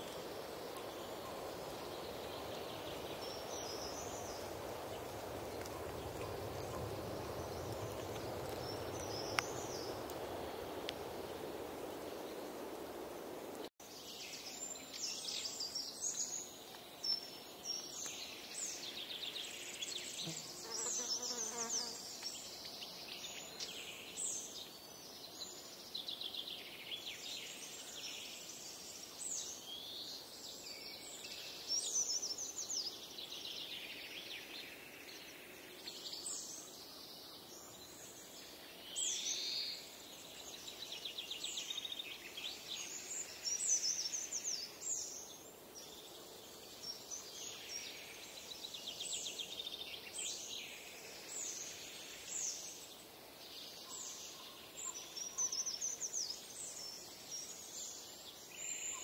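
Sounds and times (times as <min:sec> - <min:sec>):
songbirds singing: 0:00.0 - 0:12.5, 0:13.8 - 0:59.0.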